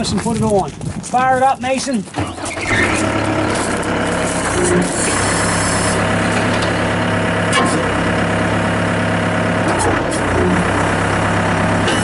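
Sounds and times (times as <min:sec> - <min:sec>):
skid steer loader engine running: 0:00.0 - 0:12.0.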